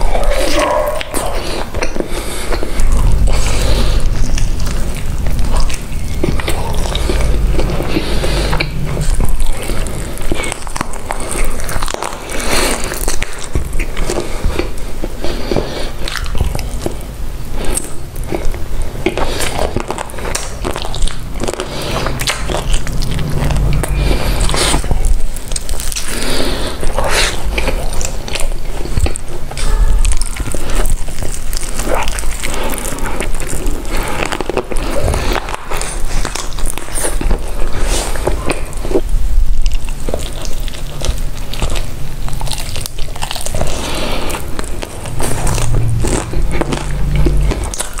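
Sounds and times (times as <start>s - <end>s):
crunchy bites and chewing: 0.0s - 48.0s.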